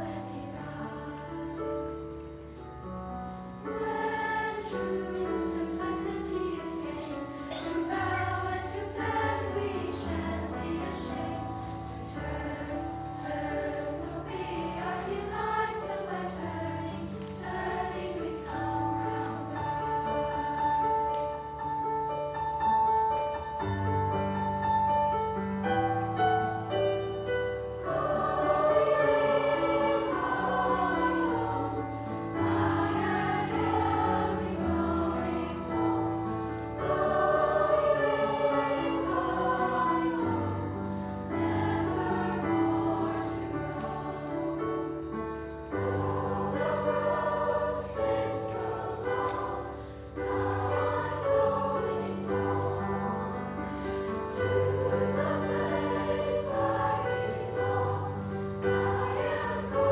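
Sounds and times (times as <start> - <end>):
choir singing: 0.0 - 59.9
piano chords: 0.0 - 59.9.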